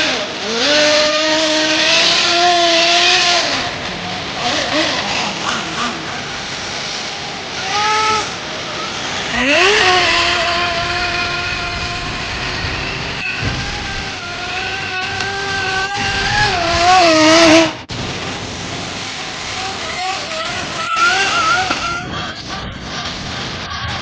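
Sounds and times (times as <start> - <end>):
small nitro engine revving: 0.0 - 17.9, 19.5 - 24.0.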